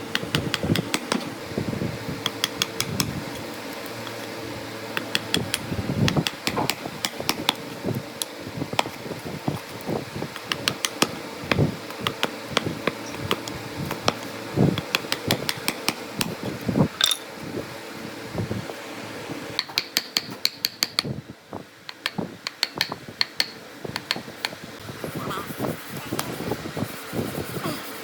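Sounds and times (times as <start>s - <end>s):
steady hum: 0.0s - 19.6s, 21.1s - 28.0s.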